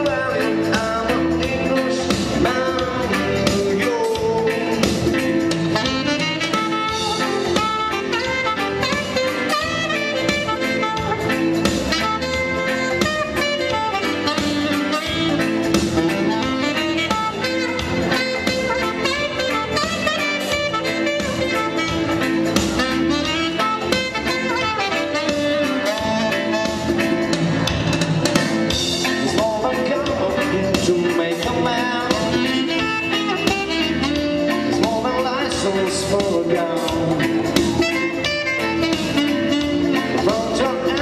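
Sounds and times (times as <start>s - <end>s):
saxophone melody: 0.0s - 29.7s, 31.4s - 35.8s, 37.2s - 41.0s
keyboard band backing with beat: 0.0s - 41.0s.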